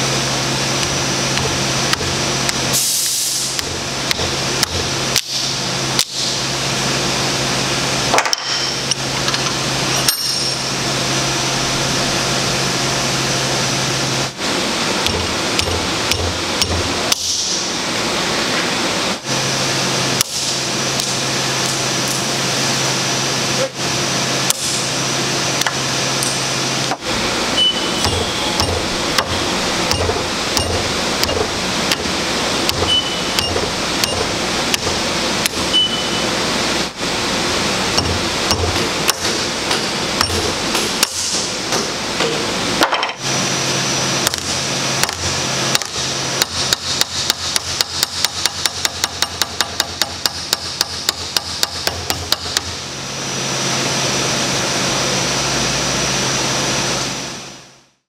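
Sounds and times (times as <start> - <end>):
steady background hum: 0.0 - 58.0.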